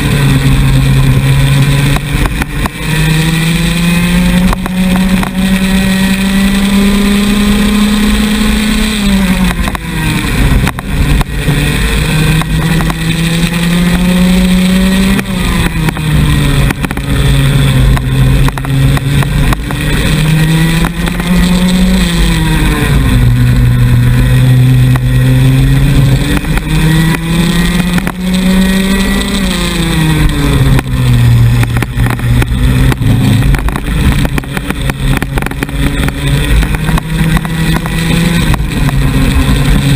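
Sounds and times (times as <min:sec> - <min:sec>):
kart engine at full throttle: 0:00.0 - 0:39.9
other kart engines: 0:00.0 - 0:39.9.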